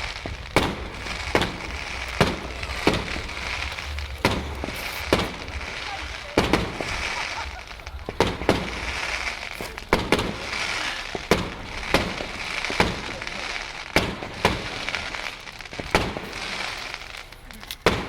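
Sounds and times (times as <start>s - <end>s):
fireworks banging: 0.0s - 18.0s
fireworks crackling: 0.0s - 18.0s.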